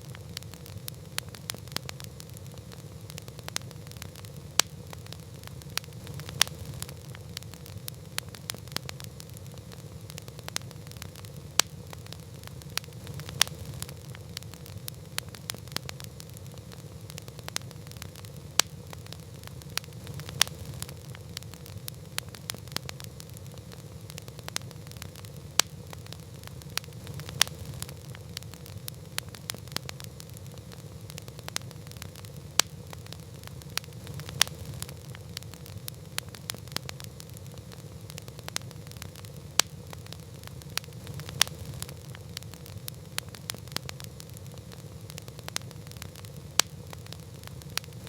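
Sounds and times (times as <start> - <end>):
campfire crackling: 0.0 - 48.0
low fire rumble: 0.0 - 48.0
sharp loud fire cracks: 0.0 - 48.0.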